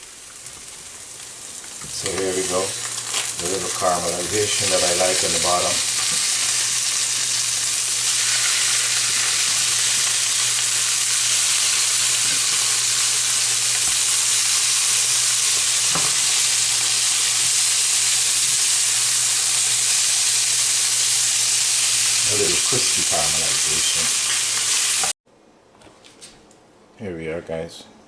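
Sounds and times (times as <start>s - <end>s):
food sizzling in a frying pan: 0.0s - 25.2s.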